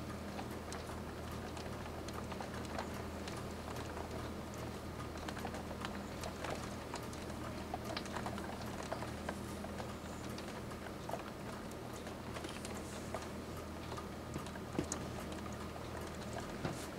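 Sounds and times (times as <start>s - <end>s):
rain pattering on hard surface: 0.0s - 16.6s
steady low hum: 0.0s - 16.9s.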